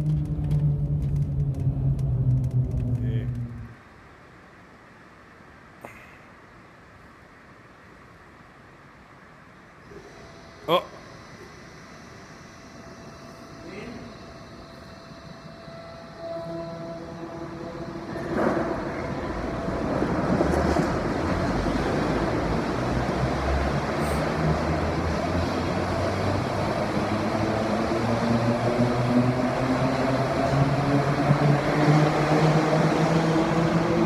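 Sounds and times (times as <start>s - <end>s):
maglev train rushing hum: 0.0s - 5.7s, 6.4s - 34.0s.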